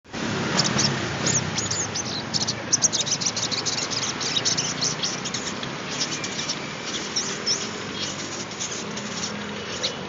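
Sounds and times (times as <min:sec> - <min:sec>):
bird chirping and trilling: 0:00.4 - 0:10.0.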